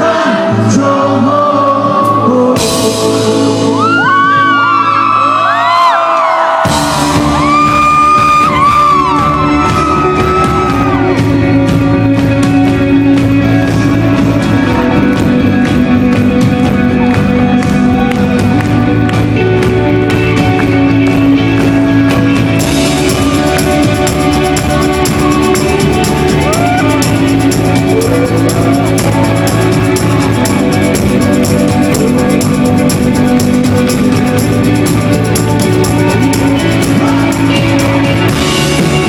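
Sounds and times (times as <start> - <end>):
live rock band playing: 0.0 - 39.0
drums and cymbals: 2.6 - 4.8, 6.6 - 39.0.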